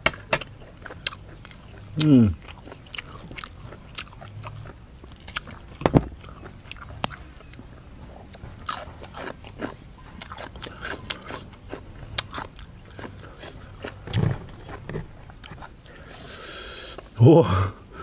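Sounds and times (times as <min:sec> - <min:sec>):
chewing crunchy chili: 0:00.0 - 0:17.2.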